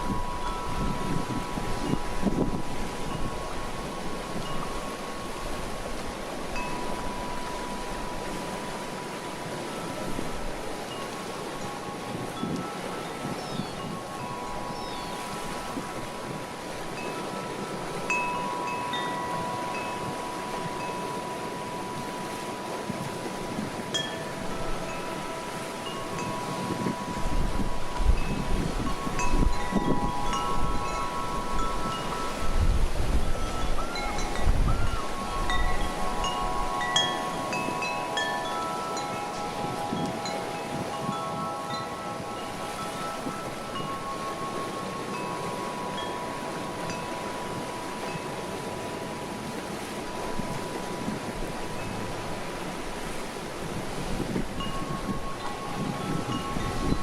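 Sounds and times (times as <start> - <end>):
wind chime ringing: 0.0 - 57.0
wind rushing on microphone: 0.0 - 57.0.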